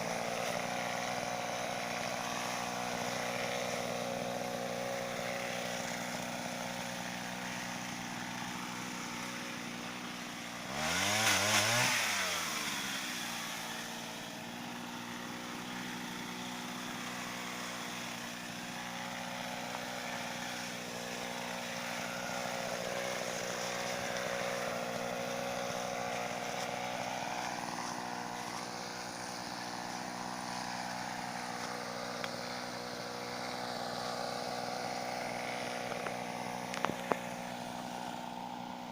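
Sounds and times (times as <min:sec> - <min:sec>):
pole saw engine running: 0:00.0 - 0:38.9.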